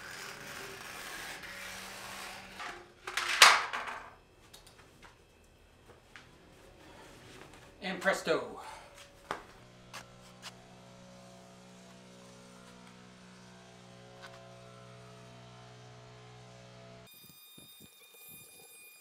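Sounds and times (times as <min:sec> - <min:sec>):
faint electrical hum: 0:00.0 - 0:15.2.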